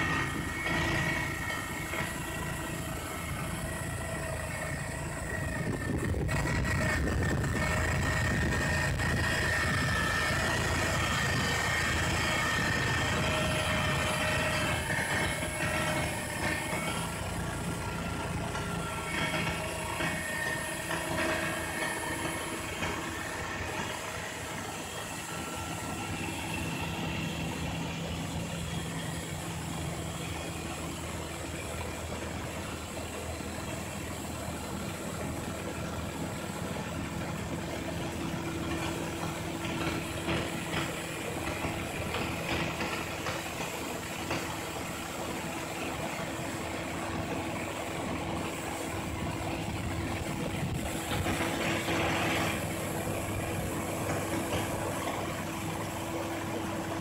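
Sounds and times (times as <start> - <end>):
heavy engine humming: 0.0 - 57.0
snow blower rushing: 0.0 - 57.0.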